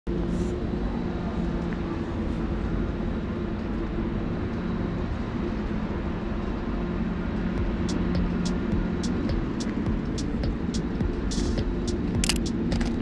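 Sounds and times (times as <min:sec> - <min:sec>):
low engine-like hum: 0:00.0 - 0:13.0
traffic: 0:00.1 - 0:13.0.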